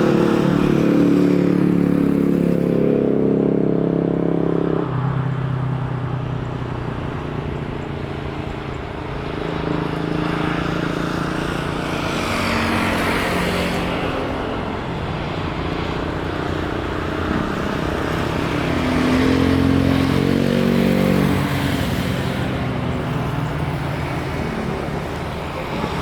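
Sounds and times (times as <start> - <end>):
steady engine noise: 0.0 - 26.0.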